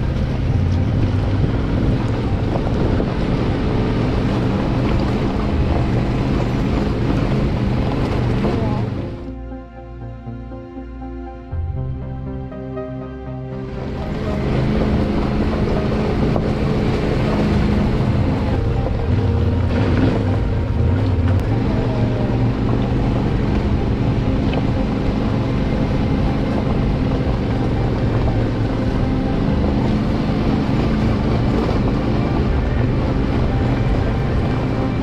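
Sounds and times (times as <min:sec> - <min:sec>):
motorcycle engine running: 0:00.0 - 0:09.3, 0:13.7 - 0:35.0
wind noise on microphone: 0:00.0 - 0:09.3, 0:13.6 - 0:35.0.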